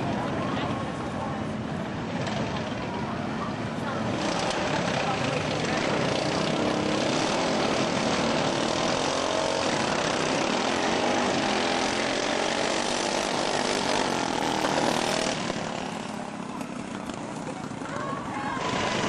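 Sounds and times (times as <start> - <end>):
racing mower engines revving: 0.0 - 19.0.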